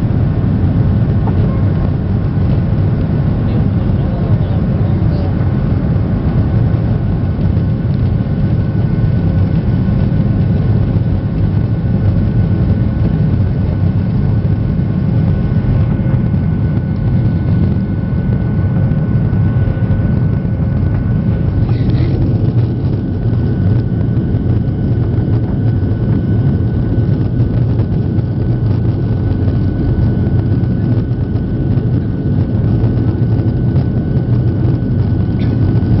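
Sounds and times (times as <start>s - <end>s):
faint engine whine: 0.0s - 36.0s
jet engines rumbling: 0.0s - 36.0s.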